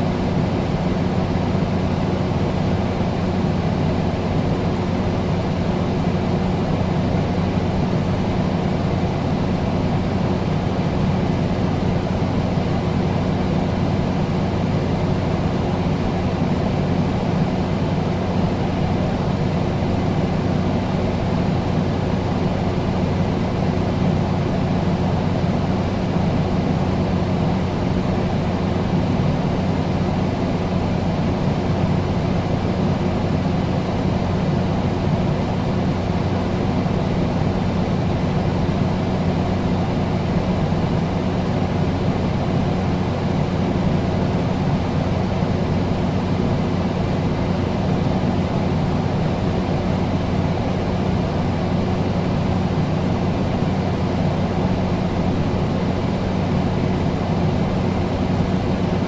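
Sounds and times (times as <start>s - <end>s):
air conditioner humming: 0.0s - 59.0s.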